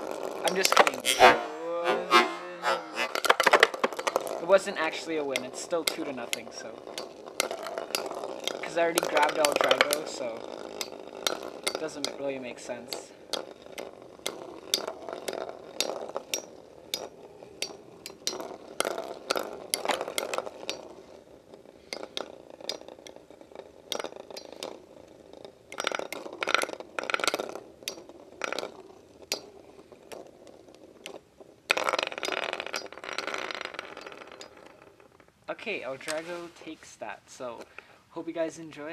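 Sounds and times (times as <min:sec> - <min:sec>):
metal tops clinking and scraping: 0:00.0 - 0:02.3, 0:02.9 - 0:35.4
spinning tops whirring: 0:00.0 - 0:36.7.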